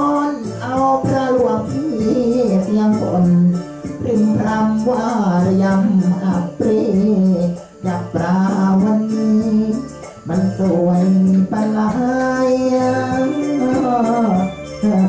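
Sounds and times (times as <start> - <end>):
hoarse voice singing long notes: 0.0 - 15.0
instrumental backing: 0.0 - 15.0.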